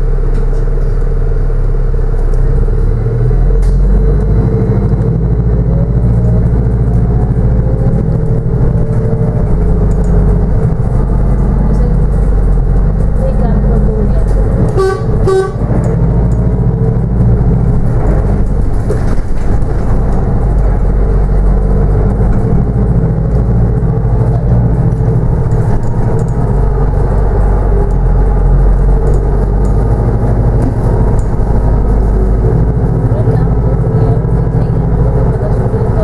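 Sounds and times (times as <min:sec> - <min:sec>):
bus drivetrain hum: 0:00.0 - 0:36.0
road rumble: 0:00.0 - 0:36.0.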